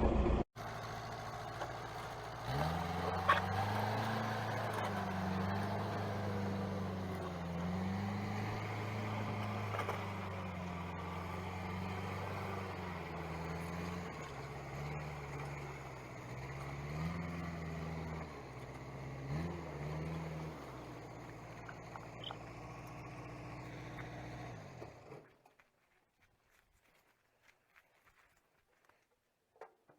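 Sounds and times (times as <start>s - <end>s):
vehicle engine running: 0.0s - 25.4s.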